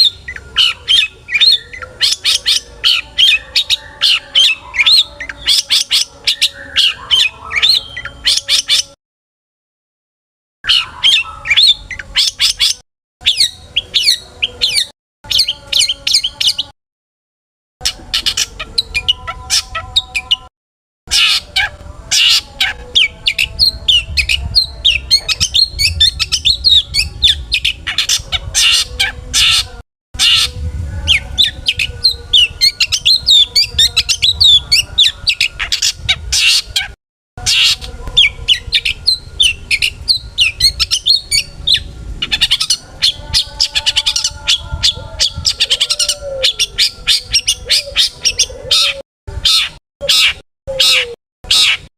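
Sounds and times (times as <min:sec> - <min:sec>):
shrike singing chirps and twitters: 0:00.0 - 0:09.0, 0:10.6 - 0:16.7, 0:17.8 - 0:20.5, 0:21.1 - 0:51.9.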